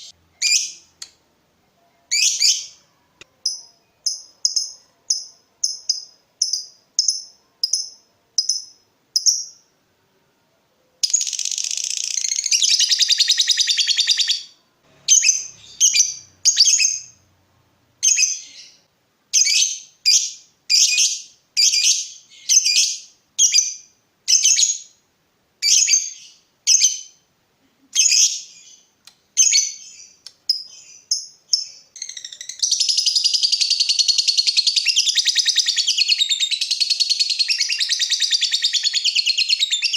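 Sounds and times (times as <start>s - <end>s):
lovebird chirping: 0.0s - 1.2s, 1.8s - 9.7s, 11.0s - 17.3s, 18.0s - 25.0s, 25.6s - 27.2s, 27.9s - 39.9s.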